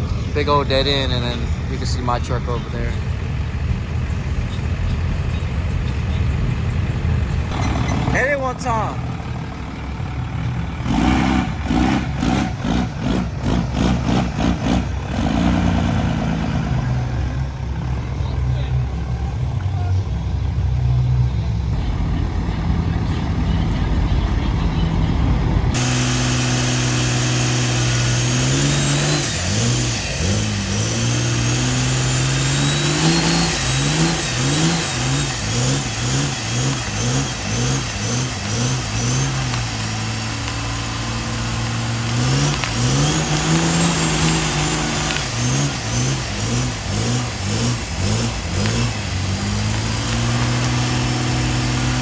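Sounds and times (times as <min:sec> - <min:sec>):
truck engine revving: 0:00.0 - 0:52.0.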